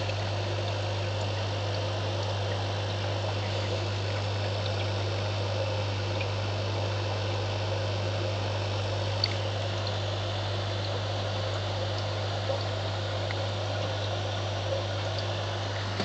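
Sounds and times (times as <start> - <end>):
aquarium pump humming: 0.0 - 16.0
moving water: 0.0 - 16.0.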